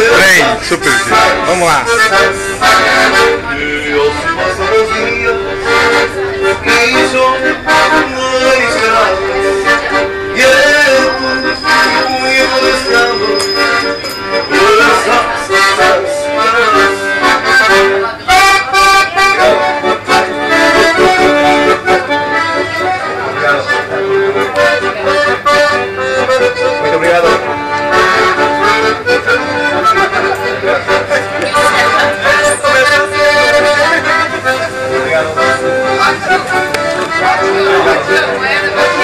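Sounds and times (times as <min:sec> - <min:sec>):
piano accordion playing: 0:00.0 - 0:39.0.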